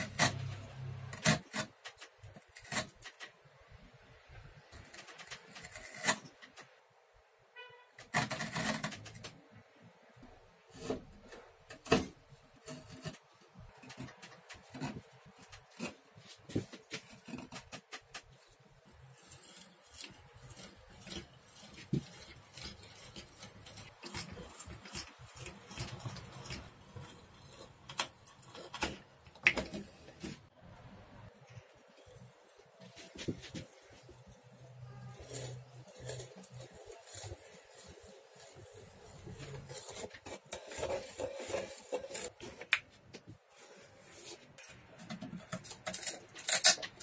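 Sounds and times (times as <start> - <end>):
chisel scraping wood: 0.0 - 3.4, 4.6 - 6.8, 7.7 - 9.5, 10.7 - 30.5, 31.6 - 42.8.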